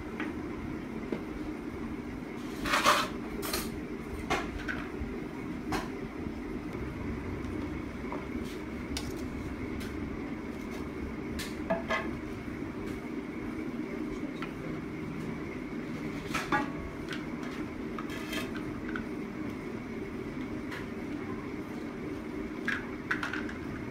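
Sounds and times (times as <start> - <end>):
low background hum: 0.0 - 23.9.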